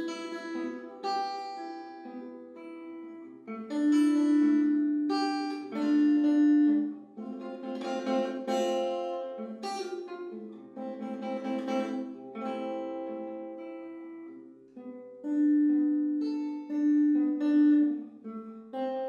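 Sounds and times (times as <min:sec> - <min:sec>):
classical guitar playing slow song: 0:00.0 - 0:19.0.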